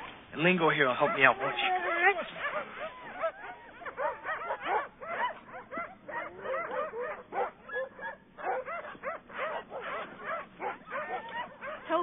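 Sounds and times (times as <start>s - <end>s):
dogs yipping and barking: 0.6s - 12.0s.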